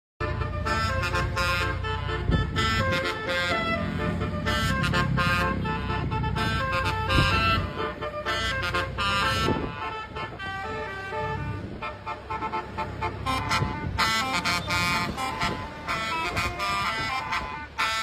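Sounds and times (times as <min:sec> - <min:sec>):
engine rumbling: 0:00.2 - 0:18.0
multi-tone horn melody: 0:00.2 - 0:18.0.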